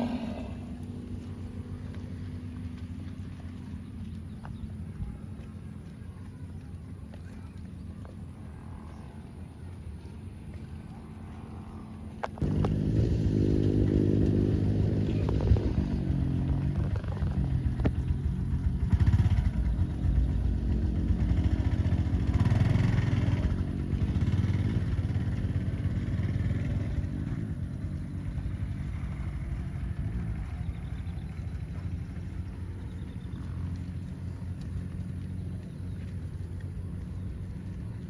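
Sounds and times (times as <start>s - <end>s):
engine running low hum: 0.0s - 38.0s.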